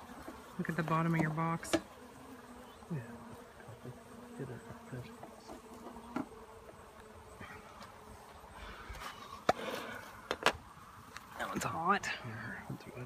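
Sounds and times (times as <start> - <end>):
bee droning past close: 0.0 - 13.0
bees buzzing: 0.0 - 13.0.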